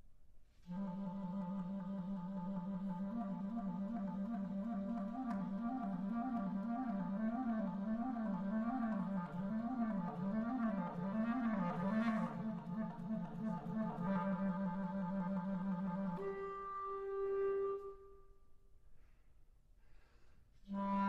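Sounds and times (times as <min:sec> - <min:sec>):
clarinet bending a low note: 0:00.7 - 0:18.4, 0:20.7 - 0:21.0.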